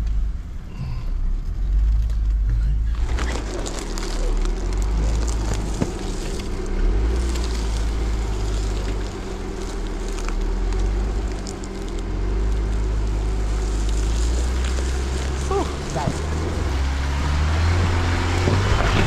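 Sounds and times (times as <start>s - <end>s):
engine low drone: 0.0s - 19.0s.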